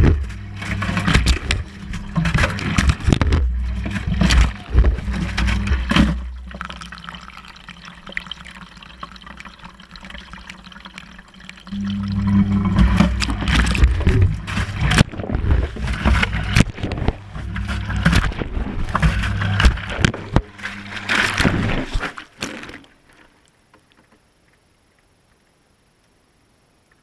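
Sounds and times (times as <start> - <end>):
washing machine motor hum: 0.0 - 22.0
water sloshing: 0.0 - 24.1.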